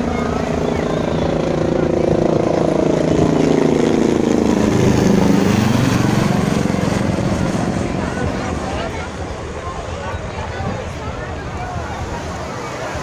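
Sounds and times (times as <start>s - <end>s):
low-flying aircraft engine drone: 0.0s - 13.0s.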